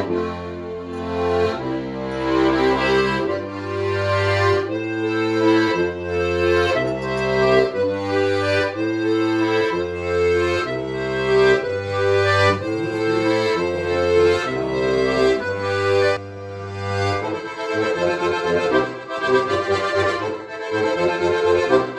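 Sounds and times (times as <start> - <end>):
button accordion folk tune: 0.0 - 21.9.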